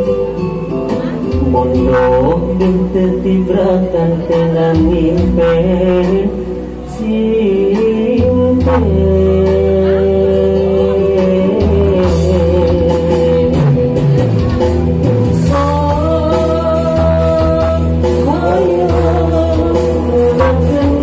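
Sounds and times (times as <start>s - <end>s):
backing track with bass: 0.0s - 21.0s
man singing into microphone: 0.0s - 21.0s.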